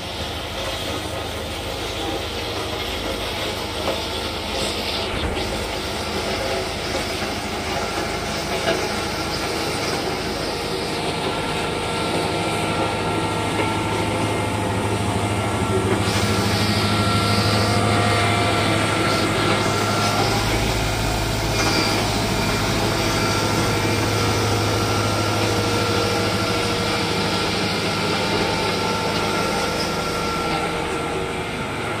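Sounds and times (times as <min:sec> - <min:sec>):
road roller diesel engine: 0:00.0 - 0:32.0.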